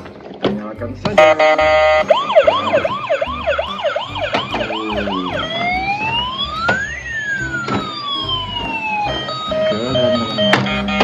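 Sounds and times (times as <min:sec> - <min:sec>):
toy fire truck siren: 0:01.2 - 0:11.0.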